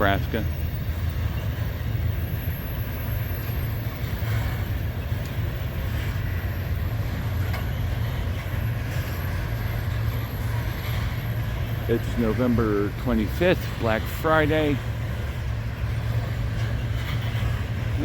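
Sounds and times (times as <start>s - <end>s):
freight train cars rolling past: 0.0s - 18.0s.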